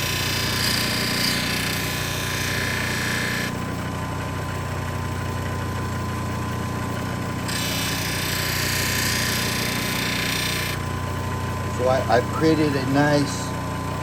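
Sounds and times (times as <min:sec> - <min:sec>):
machine motor hum: 0:00.0 - 0:14.0.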